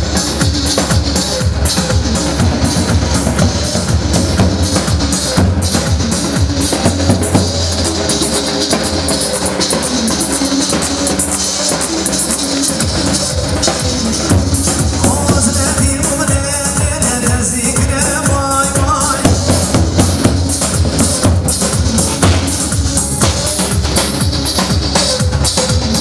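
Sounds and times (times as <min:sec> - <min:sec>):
drum-kit beat: 0:00.0 - 0:26.0
live band dance music: 0:00.0 - 0:26.0.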